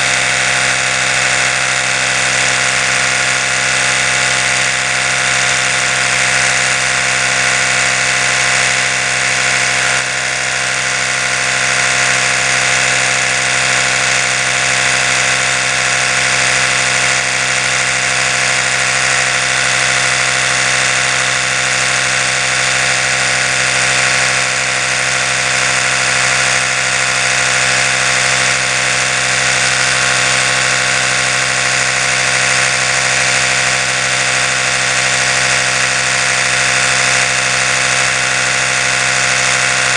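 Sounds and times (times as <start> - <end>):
electric toothbrush motor hum: 0.0 - 39.9.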